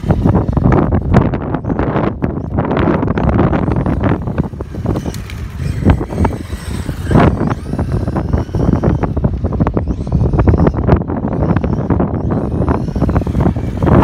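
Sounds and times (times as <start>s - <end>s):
electric motor whine: 0.0s - 14.0s
wind buffeting microphone: 0.0s - 14.0s.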